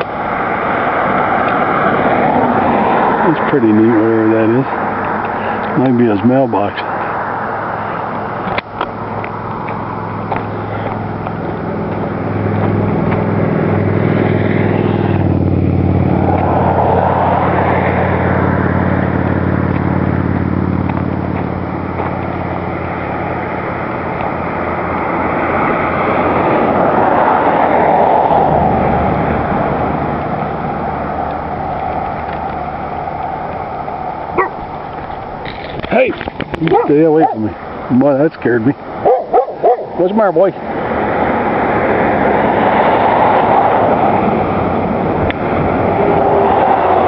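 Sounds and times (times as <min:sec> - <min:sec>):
vehicles passing on road: 0:00.0 - 0:47.0.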